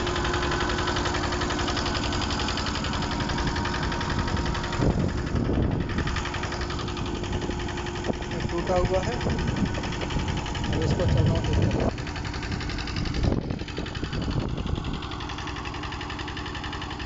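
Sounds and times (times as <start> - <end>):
machine motor pulsing and humming: 0.0 - 17.0.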